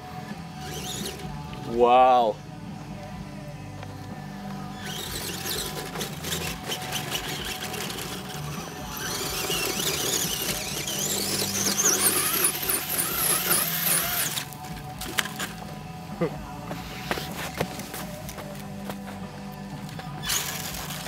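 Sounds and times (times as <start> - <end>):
rc truck motor whining: 0.0 - 1.7, 4.6 - 21.0.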